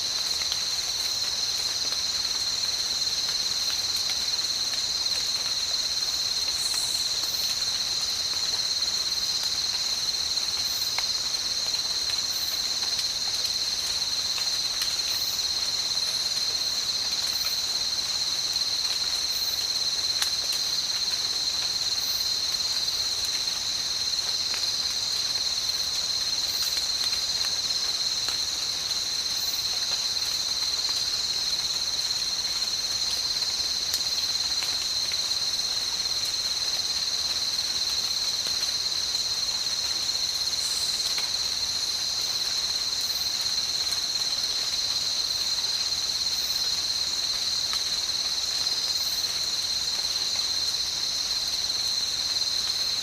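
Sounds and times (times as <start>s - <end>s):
insect chorus shrill drone: 0.2s - 53.0s.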